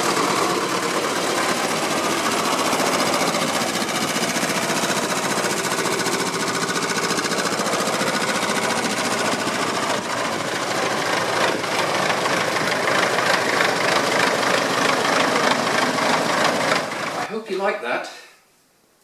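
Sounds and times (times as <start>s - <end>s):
tractor engine knocking: 0.0s - 17.3s.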